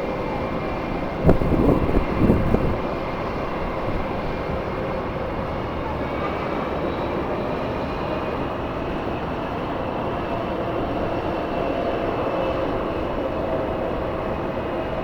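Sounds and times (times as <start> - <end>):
strong wind: 0.0 - 15.0.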